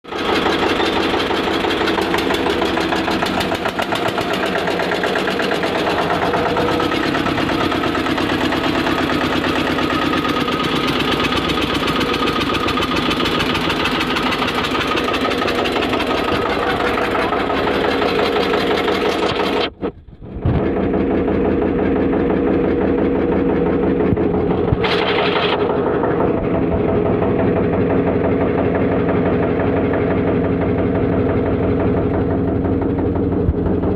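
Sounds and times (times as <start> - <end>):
diesel engine thudding: 0.1 - 33.9.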